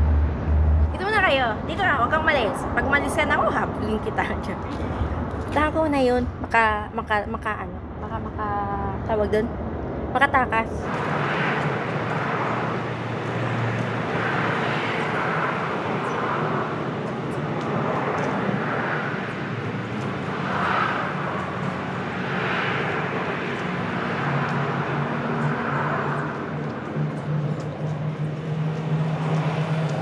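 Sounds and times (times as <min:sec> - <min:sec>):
distant engine hum: 0:00.0 - 0:30.0.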